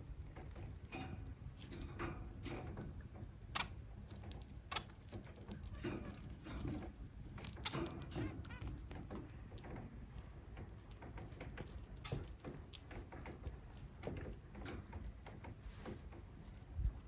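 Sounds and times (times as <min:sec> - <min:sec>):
finches tapping and clicking in cage: 0:00.1 - 0:16.3.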